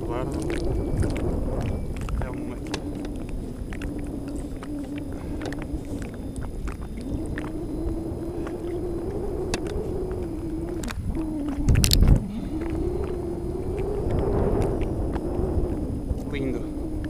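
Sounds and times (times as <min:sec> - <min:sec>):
boat motor drone: 0:00.0 - 0:17.0
water splashes: 0:00.0 - 0:17.0
wind rumble on microphone: 0:00.0 - 0:17.0.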